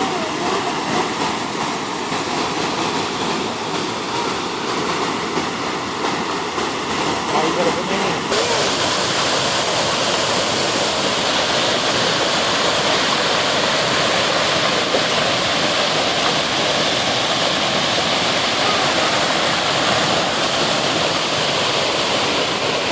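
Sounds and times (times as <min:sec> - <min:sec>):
creek water roaring: 0:00.0 - 0:22.9.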